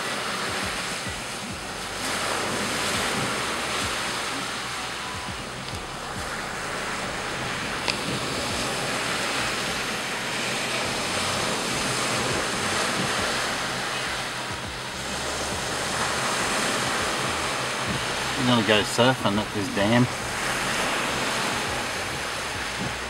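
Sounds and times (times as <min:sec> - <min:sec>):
waves washing up: 0:00.0 - 0:23.0
wind buffeting microphone: 0:00.0 - 0:23.0.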